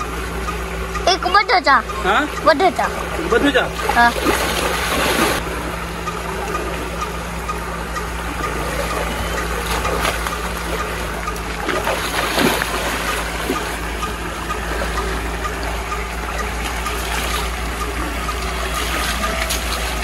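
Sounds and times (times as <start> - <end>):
low pump hum: 0.0 - 20.0
splashing in water: 1.9 - 20.0
water gushing from pipe: 2.2 - 20.0.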